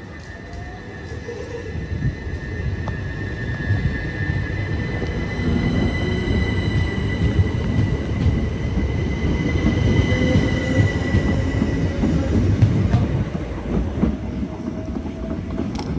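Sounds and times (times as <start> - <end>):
train rumbling with high whine: 0.0 - 15.9.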